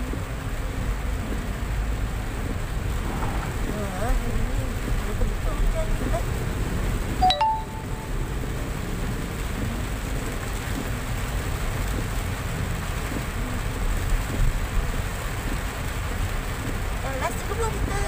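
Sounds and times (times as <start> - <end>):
rain on car roof: 0.0 - 18.0
road and tyre noise: 0.0 - 18.0.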